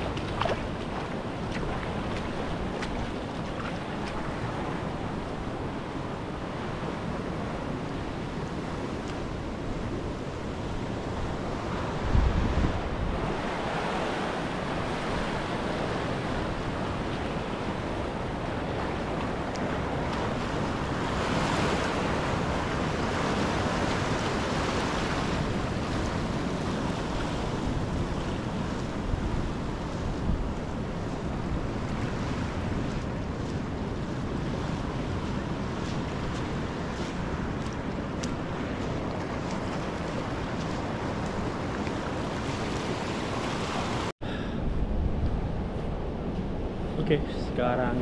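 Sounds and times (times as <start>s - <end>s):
small waves washing onto beach: 0.0s - 48.0s
wind on microphone: 0.0s - 48.0s.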